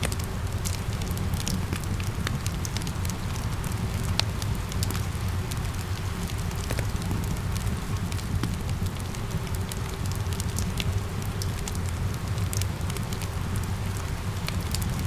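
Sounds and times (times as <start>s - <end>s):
rain pattering: 0.0s - 15.0s
wood fire crackling and popping: 0.0s - 15.0s.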